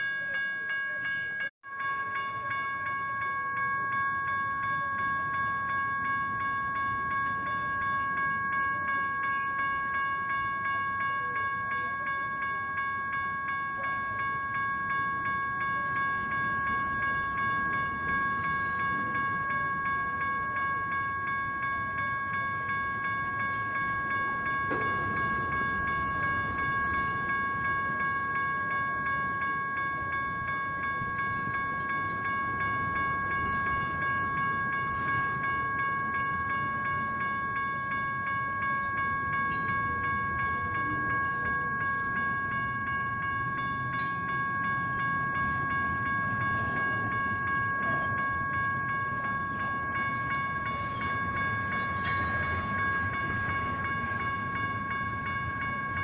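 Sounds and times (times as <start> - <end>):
freight train cars rumbling: 0.0 - 56.0
railroad crossing bells ringing: 0.0 - 56.0.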